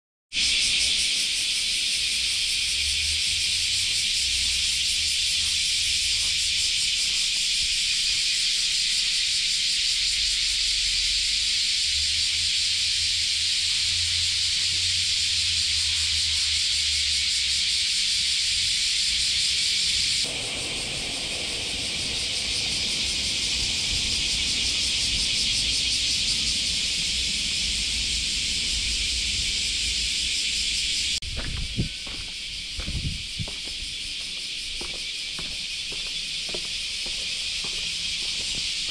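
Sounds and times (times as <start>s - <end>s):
cicadas buzzing: 0.3s - 38.9s.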